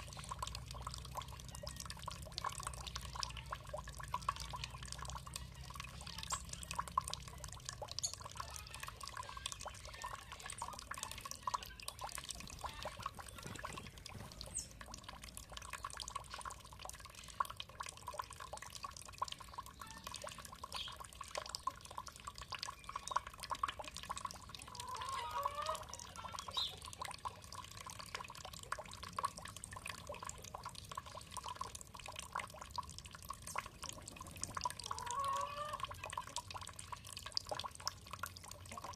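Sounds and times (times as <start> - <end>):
water dripping and trickling: 0.0 - 38.9.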